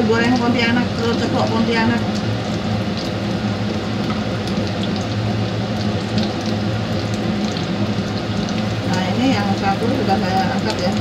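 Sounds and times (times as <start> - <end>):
eggs sizzling in oil: 0.0 - 11.0.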